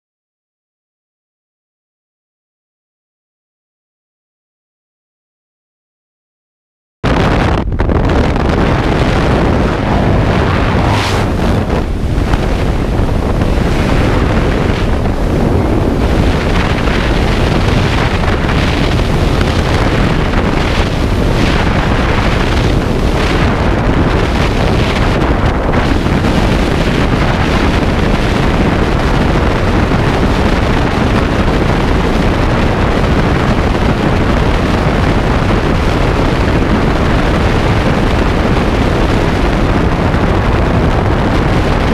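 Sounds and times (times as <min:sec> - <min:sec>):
wind rushing over microphone: 0:07.0 - 0:41.9.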